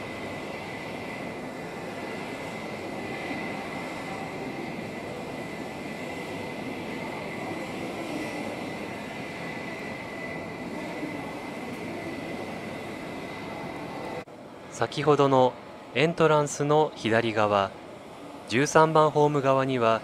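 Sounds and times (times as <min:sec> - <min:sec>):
constant high whine: 0:00.0 - 0:20.0
rail and machinery noise: 0:00.0 - 0:20.0.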